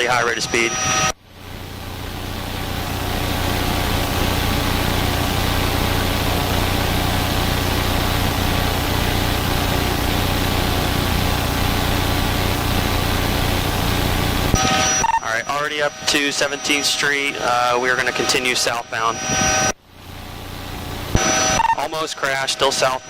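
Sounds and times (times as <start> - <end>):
helicopter engine and rotors droning: 0.0 - 23.0.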